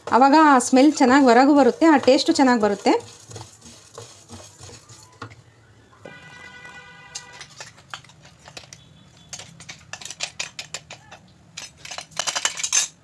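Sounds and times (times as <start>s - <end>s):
metal spoon tapping and scraping: 0.0s - 5.4s, 6.3s - 13.0s.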